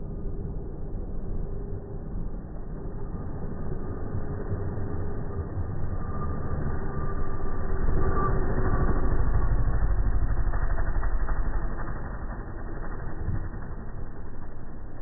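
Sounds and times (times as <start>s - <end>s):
aeroplane engine passing overhead: 0.0s - 15.0s.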